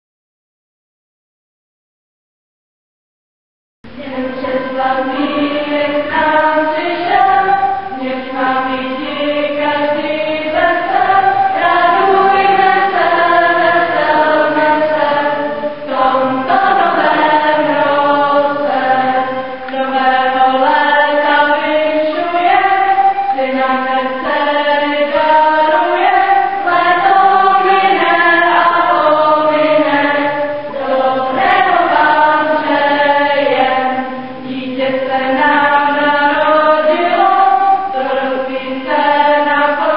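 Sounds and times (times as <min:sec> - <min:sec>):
choir singing: 0:03.9 - 0:39.9.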